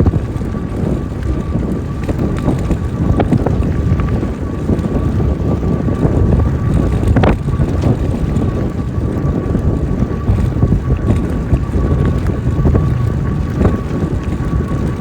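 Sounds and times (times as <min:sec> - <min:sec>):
thin steady whine: 0:00.0 - 0:15.0
wind buffeting microphone: 0:00.0 - 0:15.0.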